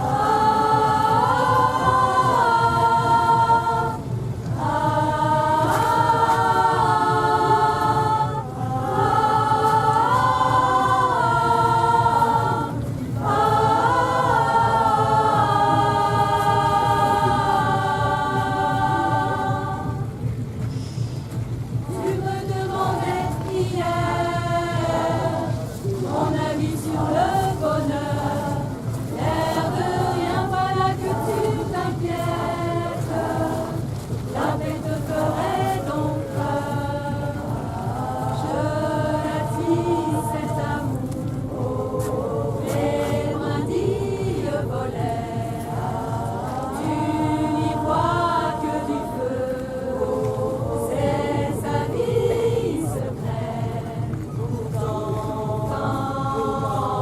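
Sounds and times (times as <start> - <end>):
choir singing slow melody: 0.0 - 57.0.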